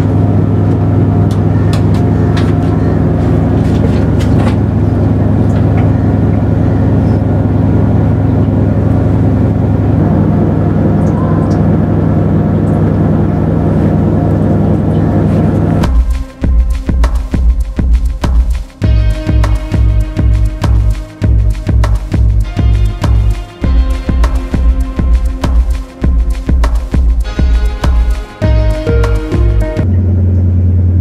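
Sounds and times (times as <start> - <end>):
washing machine drum spinning: 0.0 - 29.9.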